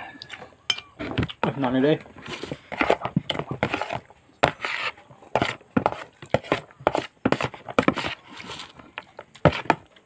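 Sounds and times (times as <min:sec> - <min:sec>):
person chewing: 0:00.0 - 0:01.4, 0:02.4 - 0:10.0.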